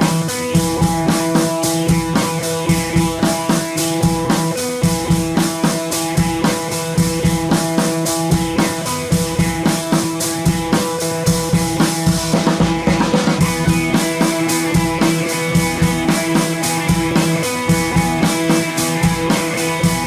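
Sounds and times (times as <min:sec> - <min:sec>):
rock music with drums and guitar: 0:00.0 - 0:20.0.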